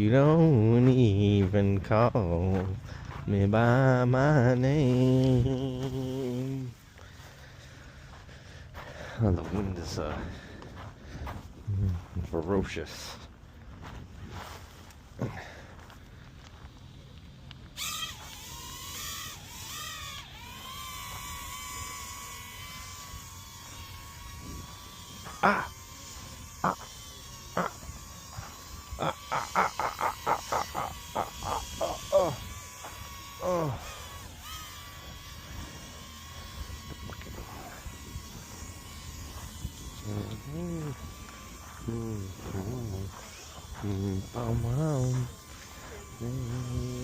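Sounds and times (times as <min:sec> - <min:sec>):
drone propellers whining: 0:00.0 - 0:13.4, 0:14.2 - 0:47.0.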